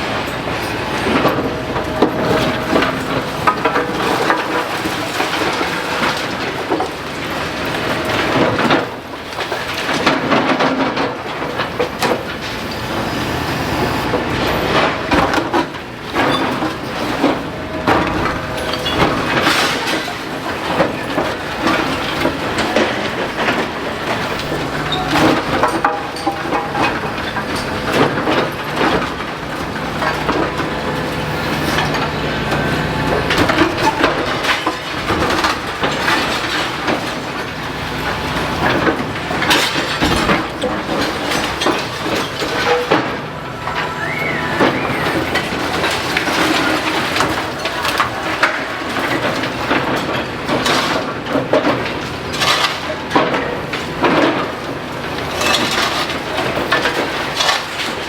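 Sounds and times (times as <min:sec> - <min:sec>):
debris crunching and clattering: 0:00.0 - 0:58.0
excavator engine hum: 0:00.0 - 0:58.0.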